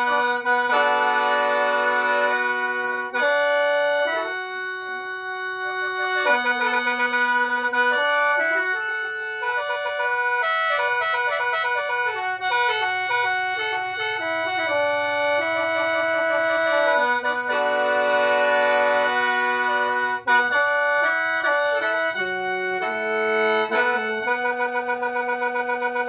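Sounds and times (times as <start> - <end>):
mouth organ melody with drone: 0.0 - 26.0.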